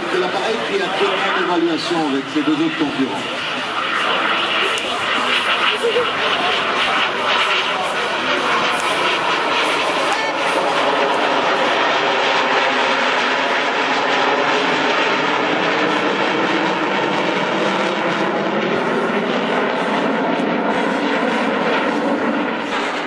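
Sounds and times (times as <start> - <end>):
jet flying past: 0.0 - 23.0.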